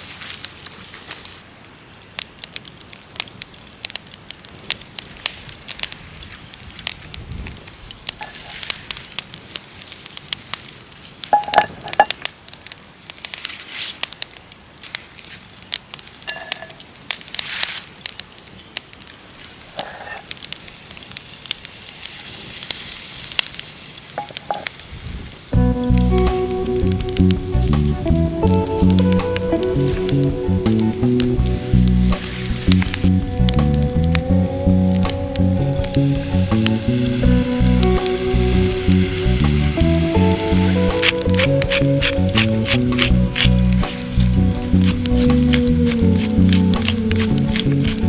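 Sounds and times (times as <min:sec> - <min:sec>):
campfire crackling: 0:00.0 - 0:48.0
fire popping: 0:00.0 - 0:48.0.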